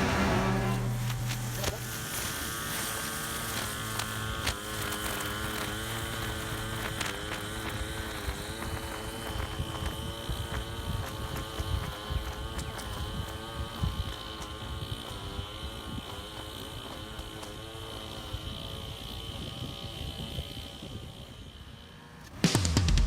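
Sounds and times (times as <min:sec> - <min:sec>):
small gas engine running: 0:00.0 - 0:23.0.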